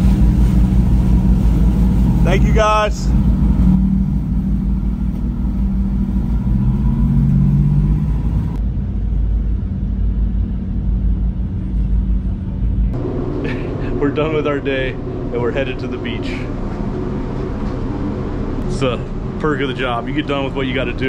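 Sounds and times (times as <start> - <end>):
boat diesel engines rumbling: 0.0 - 21.0.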